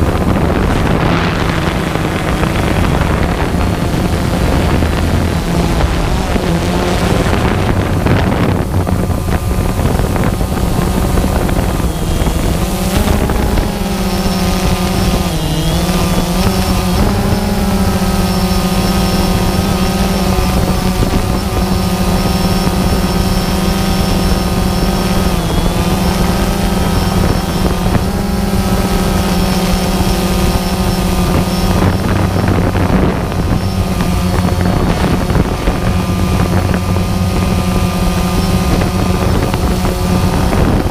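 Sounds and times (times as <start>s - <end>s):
drone motors humming: 0.0s - 40.9s.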